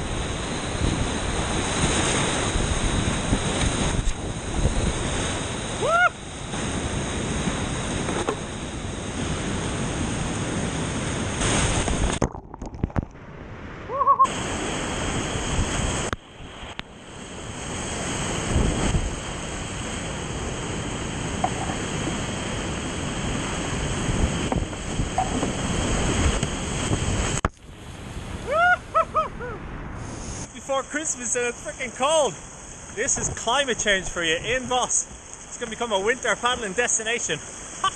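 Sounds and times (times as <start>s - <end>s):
wind on microphone: 0.0s - 30.5s.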